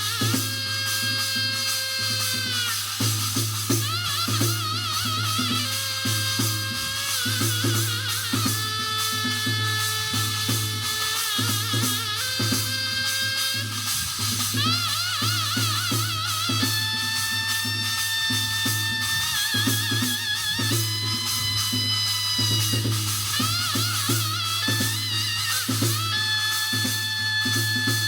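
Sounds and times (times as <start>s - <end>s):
drum strokes: 0.0s - 28.0s
shaken rattle: 0.0s - 28.0s.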